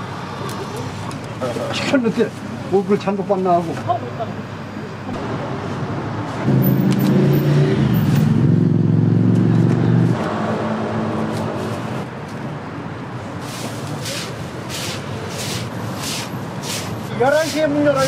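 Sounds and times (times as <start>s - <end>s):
street traffic hum: 0.0s - 18.0s.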